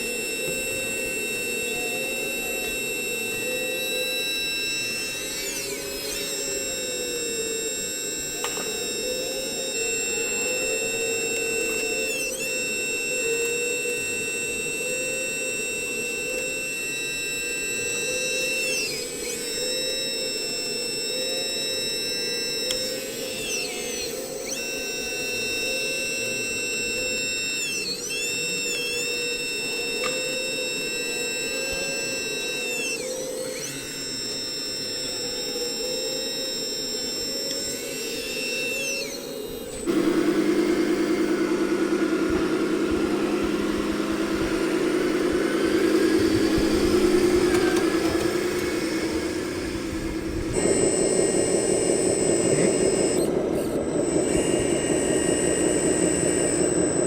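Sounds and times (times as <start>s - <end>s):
electric motor and gear whine: 0.0s - 57.0s
rough engine-like buzzing: 0.0s - 57.0s
steady hum: 0.0s - 57.0s.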